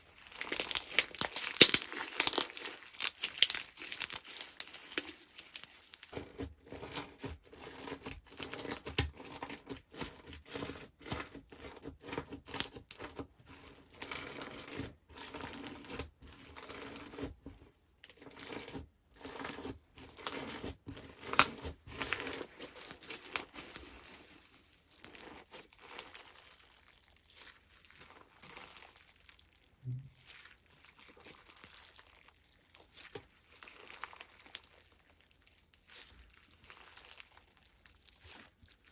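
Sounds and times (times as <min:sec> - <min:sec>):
slime crackling and popping: 0:00.0 - 0:13.2, 0:18.1 - 0:38.9.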